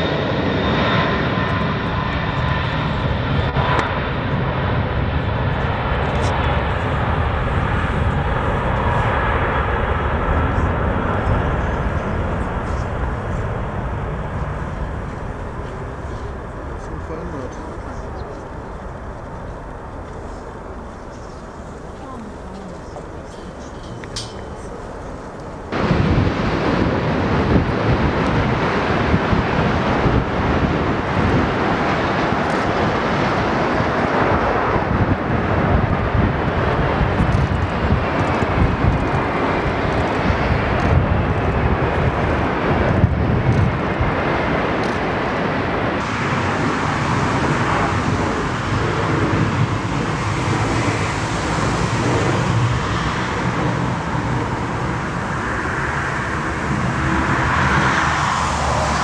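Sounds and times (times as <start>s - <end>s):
airliner engines on approach: 0.0s - 59.0s
jet engines roaring: 0.0s - 59.0s
wind buffeting microphone: 0.0s - 59.0s.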